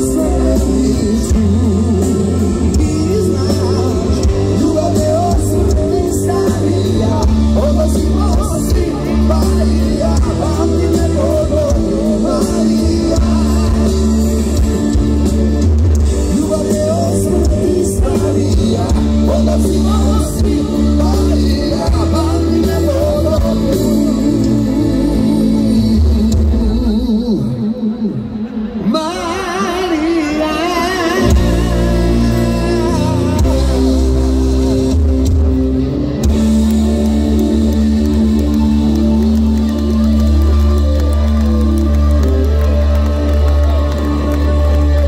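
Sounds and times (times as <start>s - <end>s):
live rock band: 0.0s - 45.0s
person singing lead vocal: 0.0s - 45.0s.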